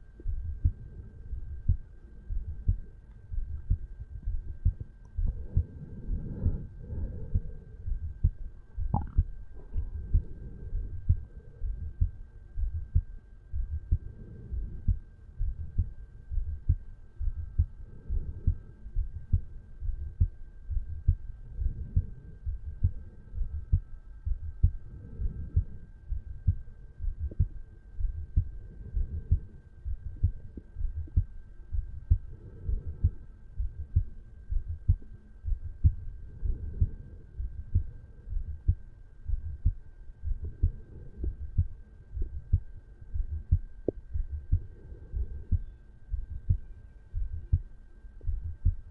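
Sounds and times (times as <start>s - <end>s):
faint high hum: 0.0s - 48.9s
heartbeat thumps: 0.0s - 48.9s.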